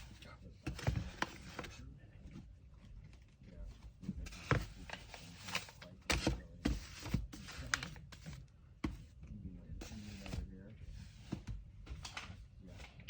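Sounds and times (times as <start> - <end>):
paper rustling: 0.0 - 1.9, 3.0 - 9.1, 9.8 - 13.0.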